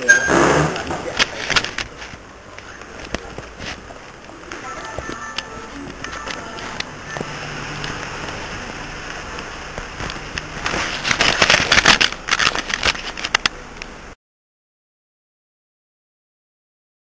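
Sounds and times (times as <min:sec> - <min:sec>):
background hiss and hum: 0:00.0 - 0:14.2.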